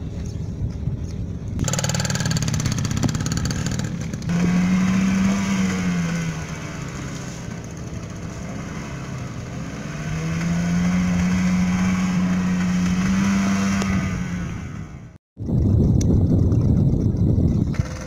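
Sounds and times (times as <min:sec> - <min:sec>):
outboard motor running: 0:00.0 - 0:14.8, 0:15.4 - 0:18.0.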